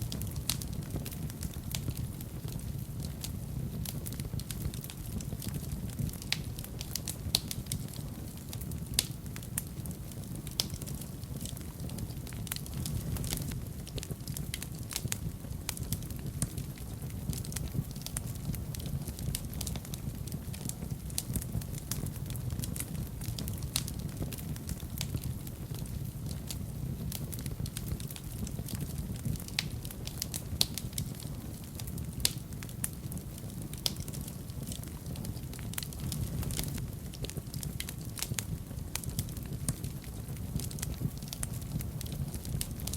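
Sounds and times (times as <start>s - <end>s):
fire crackling in fireplace: 0.0s - 42.9s
low rumble of flames: 0.0s - 42.9s.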